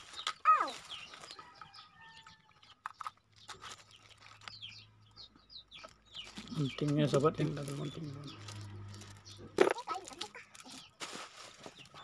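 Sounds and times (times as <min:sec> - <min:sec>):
cardboard and plastic crinkling: 0:00.0 - 0:04.8, 0:05.8 - 0:12.0
birds chirping: 0:00.0 - 0:12.0.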